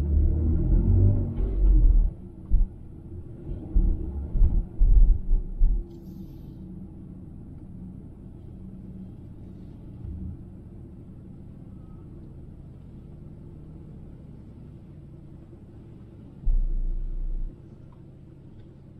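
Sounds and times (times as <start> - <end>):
car rumbling: 0.0 - 18.9.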